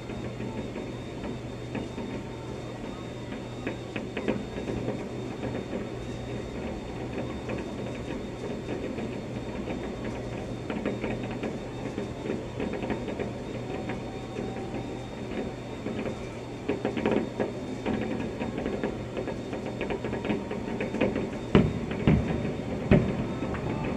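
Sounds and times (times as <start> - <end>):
muffled fireworks popping and crackling: 0.0 - 23.9
steady low hum: 0.0 - 23.9.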